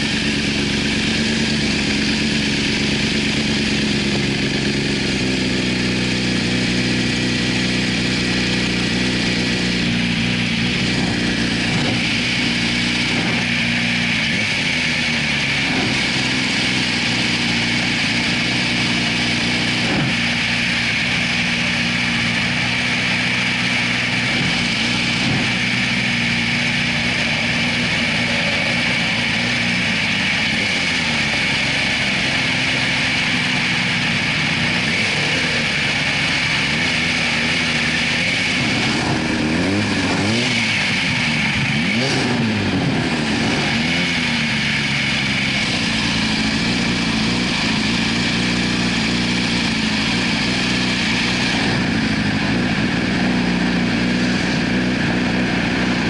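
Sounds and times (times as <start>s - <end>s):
motorcycle engine idling: 0.0s - 56.0s
passing traffic: 0.0s - 56.0s.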